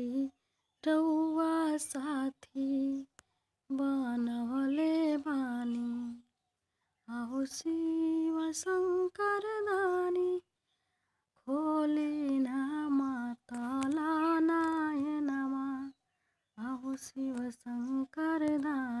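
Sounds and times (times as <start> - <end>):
woman singing unaccompanied: 0.0 - 6.3, 7.1 - 10.5, 11.4 - 16.0, 16.6 - 19.0.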